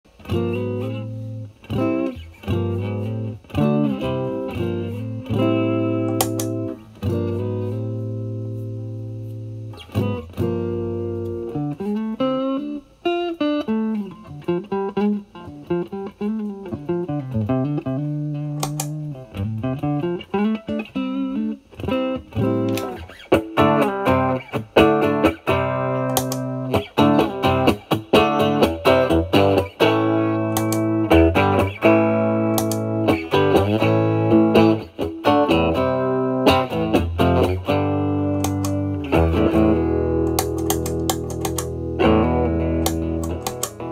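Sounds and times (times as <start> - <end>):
electric guitar playing: 0.0 - 43.9.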